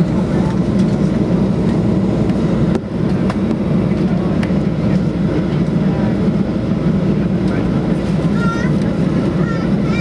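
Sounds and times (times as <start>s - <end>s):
jet engines low rumble: 0.0s - 10.0s.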